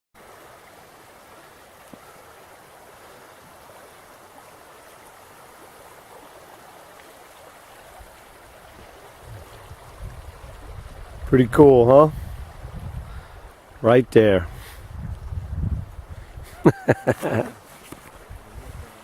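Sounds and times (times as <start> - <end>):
flowing stream: 0.2 - 19.0.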